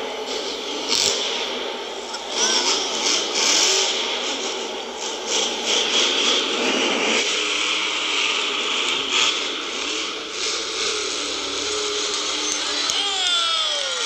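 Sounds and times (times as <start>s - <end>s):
monster truck engine running: 0.0s - 14.0s.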